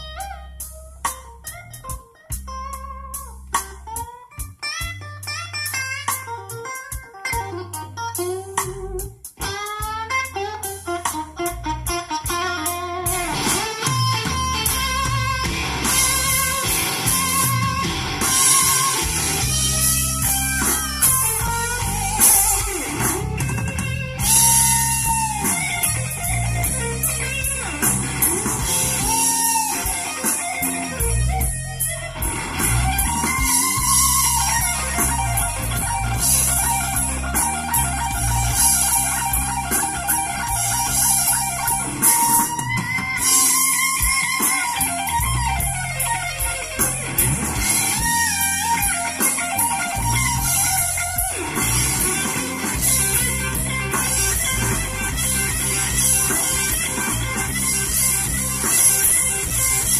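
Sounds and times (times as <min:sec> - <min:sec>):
guitar music through car stereo: 0:00.0 - 0:59.9.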